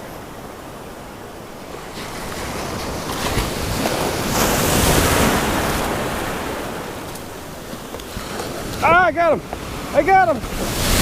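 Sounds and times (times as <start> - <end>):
surf waves washing around legs: 0.0 - 11.0
wind on microphone: 0.0 - 11.0.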